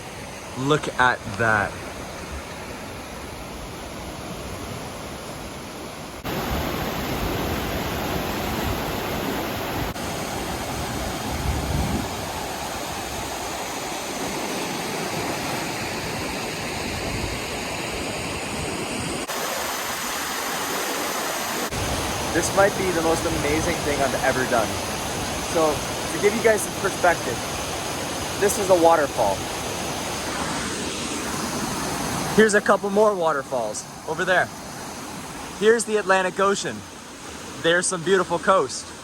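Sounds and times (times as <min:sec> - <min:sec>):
waterfall rushing: 0:03.9 - 0:16.9, 0:19.2 - 0:39.0.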